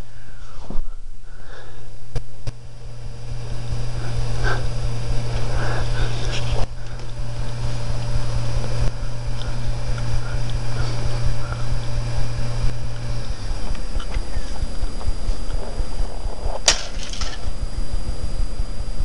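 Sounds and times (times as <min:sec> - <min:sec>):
even hiss: 0:00.0 - 0:17.8
steady low hum: 0:00.0 - 0:19.0.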